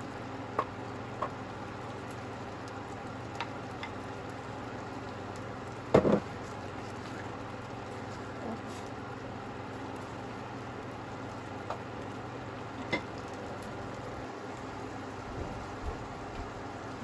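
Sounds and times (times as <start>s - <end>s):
sauce simmering and sizzling: 0.0s - 17.0s.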